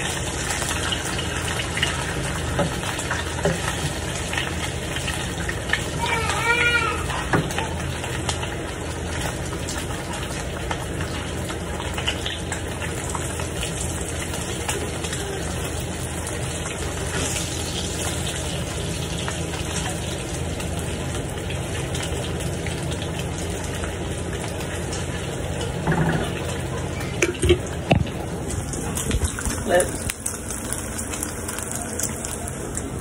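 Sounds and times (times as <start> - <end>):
bacon sizzling in a pan: 0.0 - 33.0.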